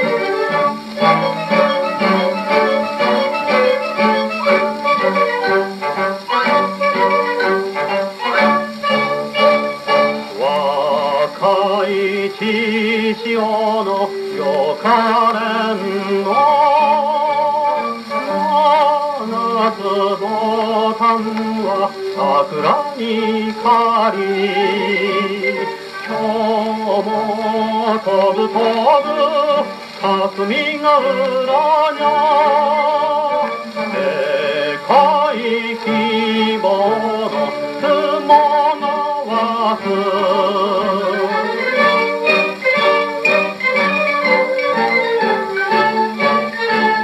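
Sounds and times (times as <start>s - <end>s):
man singing with vibrato: 0.0s - 47.0s
orchestral accompaniment: 0.0s - 47.0s.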